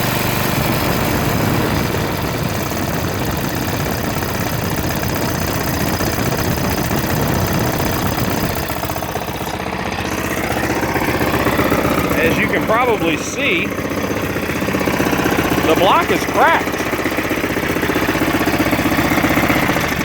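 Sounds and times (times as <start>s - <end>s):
riding mower engine idling: 0.0s - 20.0s.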